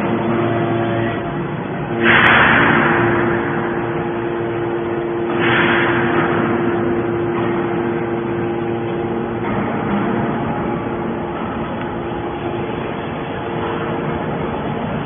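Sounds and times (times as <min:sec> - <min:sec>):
baler motor and pump hum: 0:00.0 - 0:15.0
hydraulic hissing: 0:01.8 - 0:15.0.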